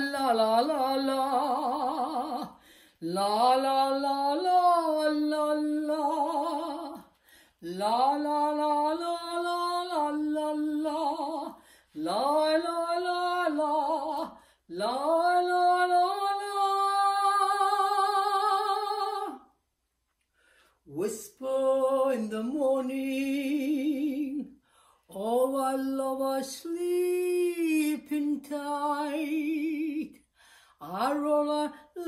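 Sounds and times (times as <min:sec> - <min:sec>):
woman singing with vibrato: 0:00.0 - 0:19.6, 0:20.9 - 0:32.0.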